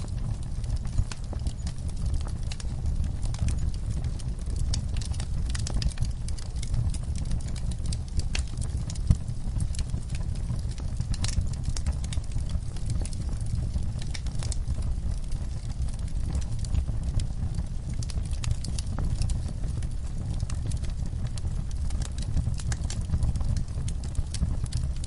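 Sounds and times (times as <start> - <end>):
logs crackling and popping: 0.0 - 25.0
low rumble of flame: 0.0 - 25.0.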